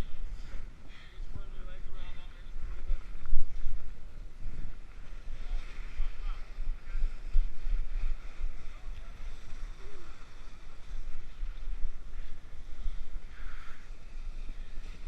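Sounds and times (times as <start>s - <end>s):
steady rushing hiss: 0.0s - 15.0s
wind buffeting microphone: 0.0s - 15.0s.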